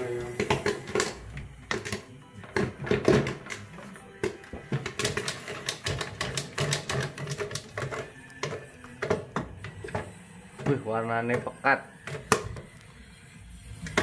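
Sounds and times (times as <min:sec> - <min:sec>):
corn popping: 0:00.0 - 0:12.8.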